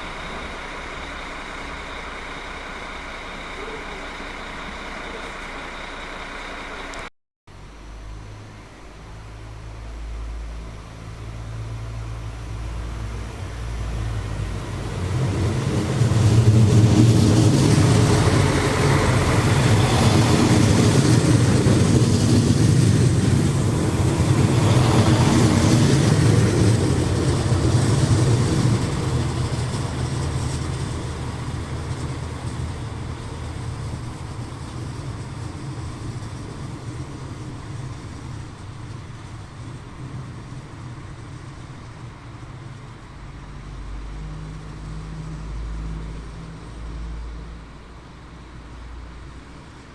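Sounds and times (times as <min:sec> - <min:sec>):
train passing rumble: 0:00.0 - 0:49.9.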